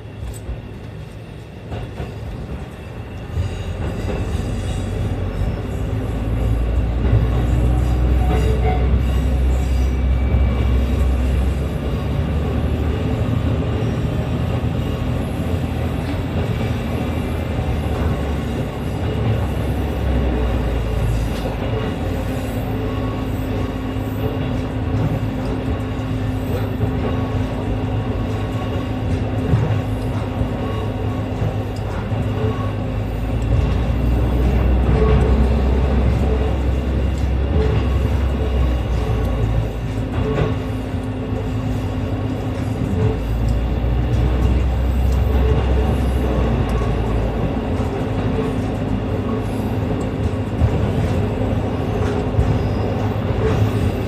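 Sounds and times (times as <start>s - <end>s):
wheel-on-rail noise: 0.0s - 54.0s
diesel engine drone: 2.4s - 54.0s.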